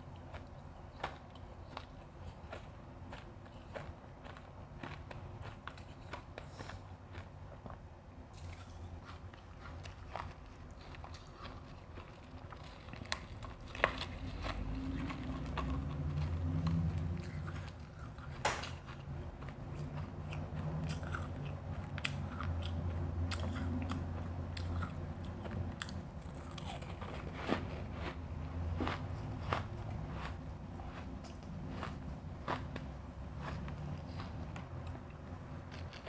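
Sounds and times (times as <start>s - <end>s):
chewing rumble: 0.0s - 36.0s.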